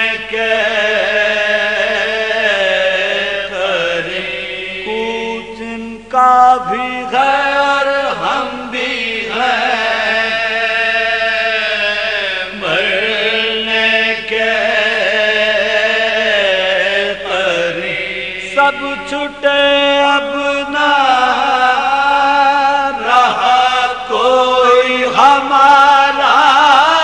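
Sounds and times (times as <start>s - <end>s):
man chanting a lament: 0.0s - 27.0s.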